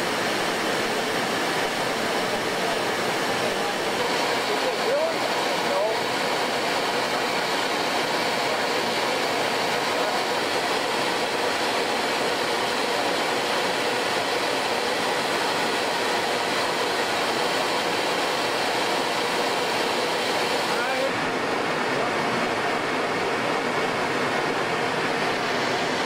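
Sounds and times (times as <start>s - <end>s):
steady rushing air noise: 0.0s - 26.0s.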